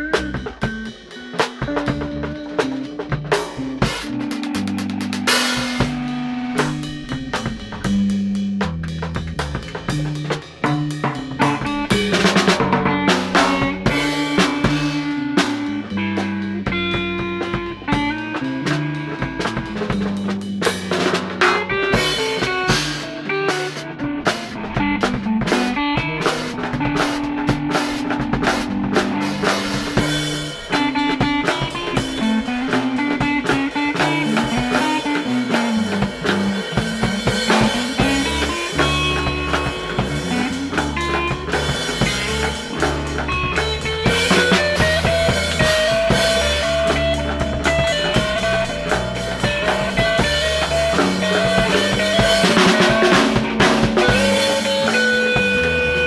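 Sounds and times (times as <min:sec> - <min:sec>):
bass guitar: 0:00.0 - 0:56.0
drums and cymbals: 0:00.0 - 0:56.0
electric guitar line: 0:00.0 - 0:56.0.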